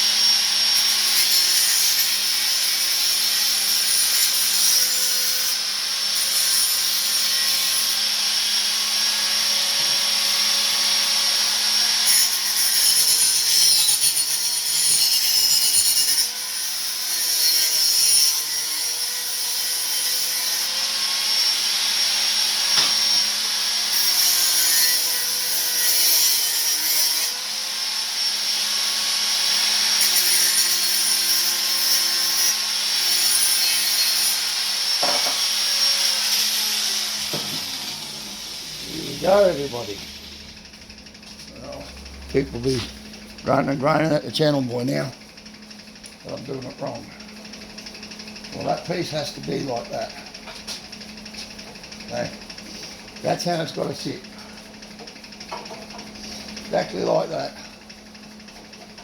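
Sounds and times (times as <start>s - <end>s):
angle grinder cutting metal pipe: 0.0s - 59.0s.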